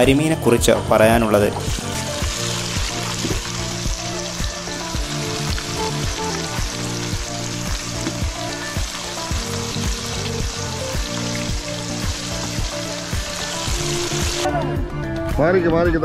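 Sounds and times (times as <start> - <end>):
background music with steady beat: 0.0 - 16.0
oil sizzling in a frying pan: 1.6 - 14.5.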